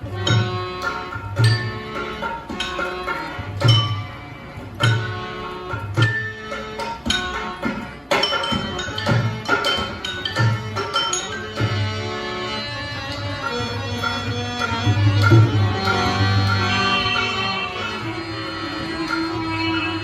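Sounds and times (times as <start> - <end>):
bowed sarangi melody: 0.0 - 20.0.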